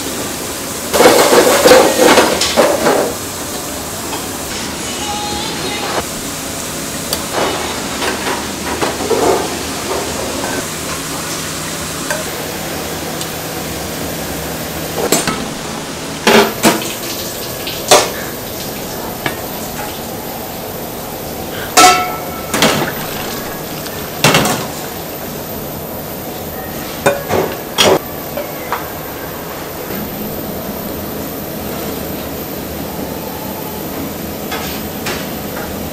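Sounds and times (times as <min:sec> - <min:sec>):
kitchen noise hiss: 0:00.0 - 0:35.9.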